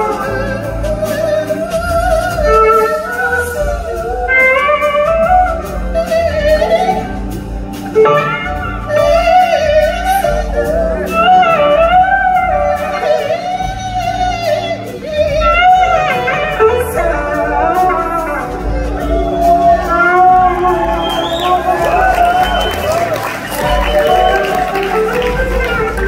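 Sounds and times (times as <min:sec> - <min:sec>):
live rock band: 0:00.0 - 0:26.0
slide guitar lead: 0:00.0 - 0:26.0.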